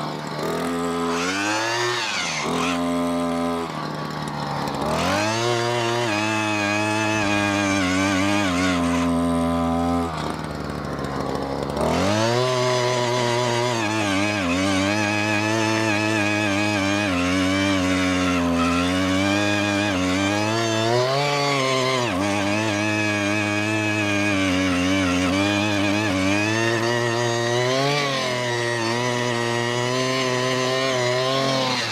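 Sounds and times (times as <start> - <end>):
post hole digger engine running: 0.0 - 31.9.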